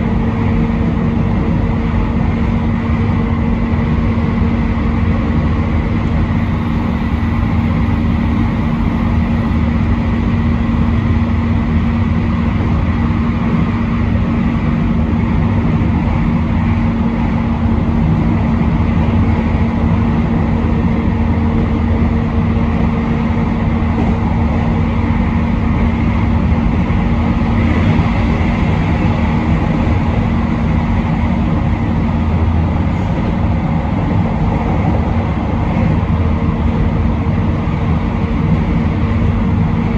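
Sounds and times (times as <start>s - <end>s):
train wheels rumbling on rail: 0.0s - 39.9s
steady hum: 1.8s - 22.6s, 23.4s - 39.9s.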